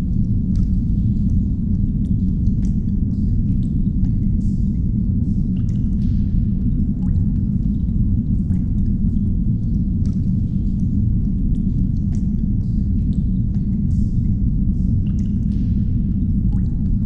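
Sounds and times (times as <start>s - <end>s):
deep rumble: 0.0s - 17.0s
faint drips: 0.0s - 17.0s.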